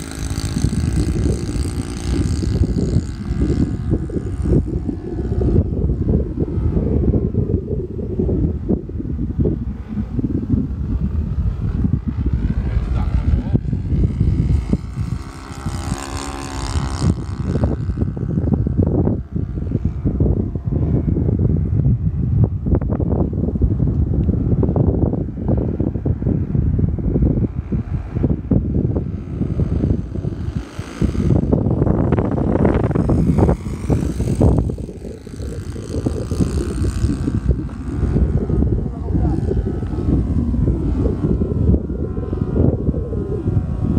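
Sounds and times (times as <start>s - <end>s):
airplane engine and propeller drone: 0.0s - 43.9s
wind buffeting microphone: 0.0s - 43.9s.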